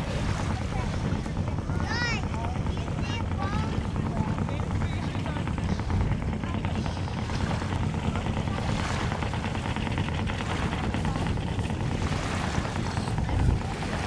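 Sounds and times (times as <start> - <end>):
low rumble: 0.0 - 14.0
wind buffeting microphone: 0.0 - 14.0.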